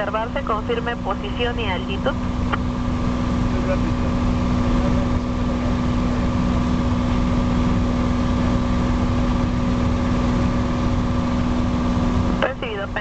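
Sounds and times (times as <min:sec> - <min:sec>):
aircraft engine hum: 0:00.0 - 0:13.0.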